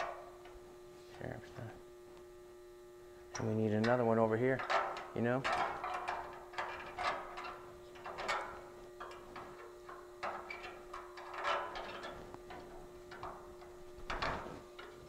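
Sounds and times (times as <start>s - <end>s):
steady faint hum: 0.0s - 15.0s.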